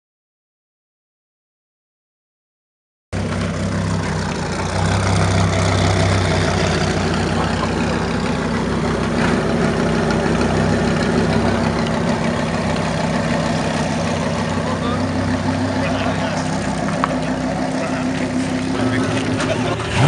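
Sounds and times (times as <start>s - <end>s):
car engine idling: 3.2s - 20.0s.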